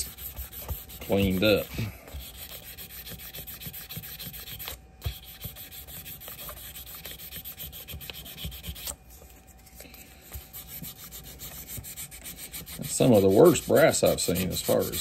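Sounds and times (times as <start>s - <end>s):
sandpaper rasping on metal: 0.0s - 8.9s, 10.6s - 15.0s.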